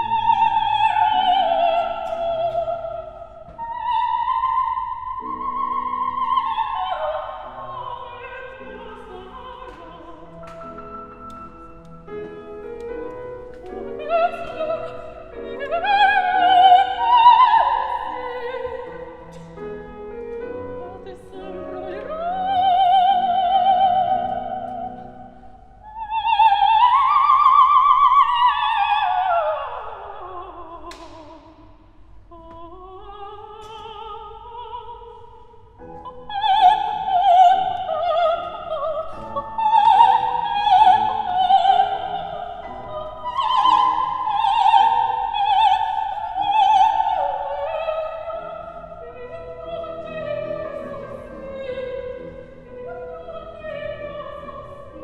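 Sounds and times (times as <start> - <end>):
operatic soprano singing: 0.0 - 55.0.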